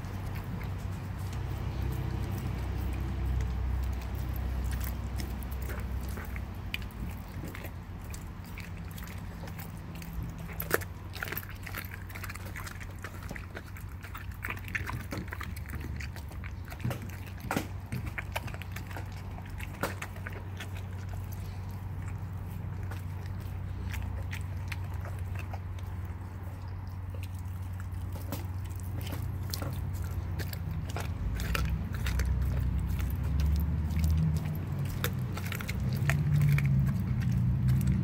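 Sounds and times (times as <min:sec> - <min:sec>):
dog chewing bone with crunches: 0:00.0 - 0:38.0
steady low hum: 0:00.0 - 0:38.0.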